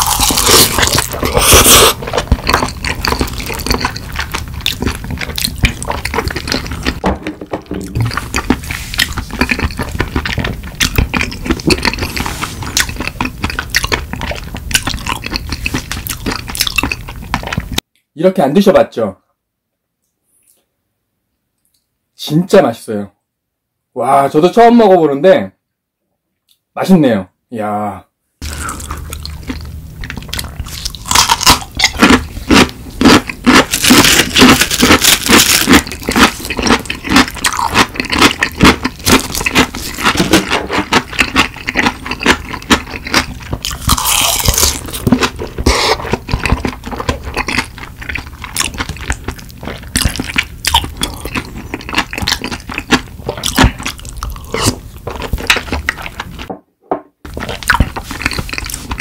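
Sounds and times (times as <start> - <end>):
crunching and chewing: 0.0 - 17.8, 28.4 - 56.5, 57.3 - 59.0.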